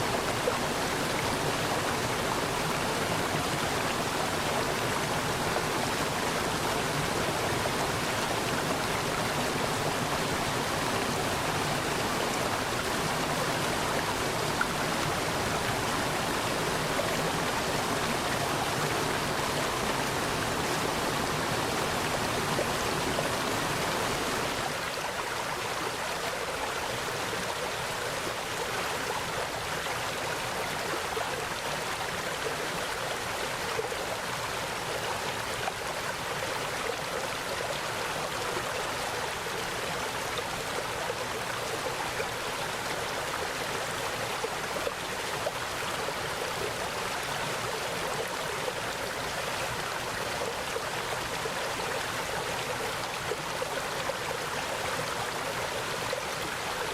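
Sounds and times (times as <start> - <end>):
stream flowing: 0.0 - 56.9.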